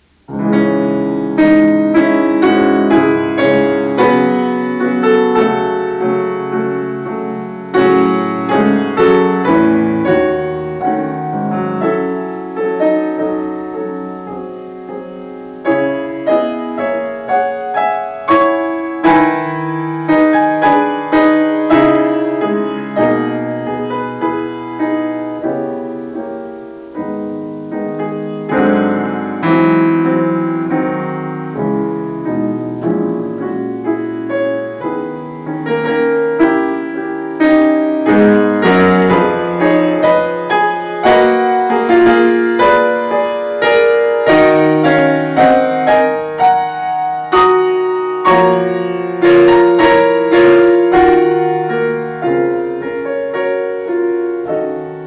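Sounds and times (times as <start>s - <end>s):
grand piano piece: 0.0s - 55.0s.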